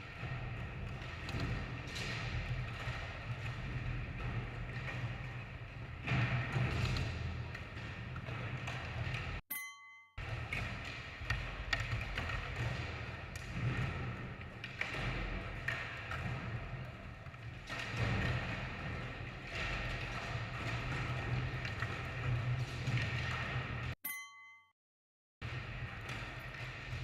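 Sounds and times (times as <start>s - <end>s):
skateboards rolling and clacking: 0.0s - 9.4s, 10.2s - 24.0s, 25.4s - 27.0s.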